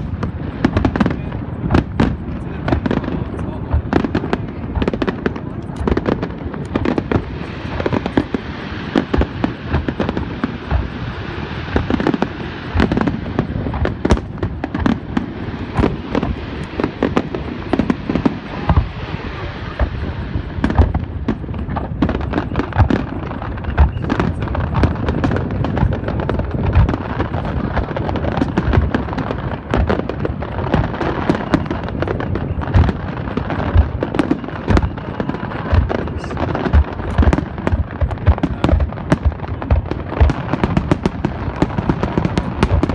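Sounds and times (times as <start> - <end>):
fireworks shells booming: 0.0 - 42.9
fireworks sparks crackling: 0.0 - 42.9.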